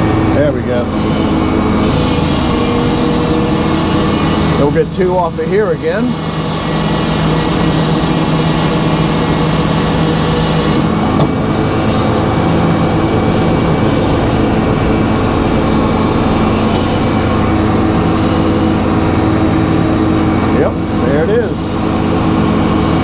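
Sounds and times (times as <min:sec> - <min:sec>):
sawmill blade drone: 0:00.0 - 0:23.0.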